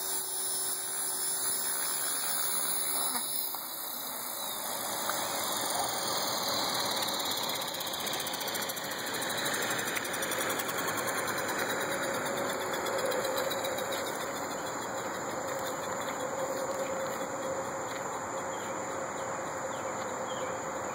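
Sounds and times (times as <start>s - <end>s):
rc helicopter rotor whirring: 0.0s - 20.9s.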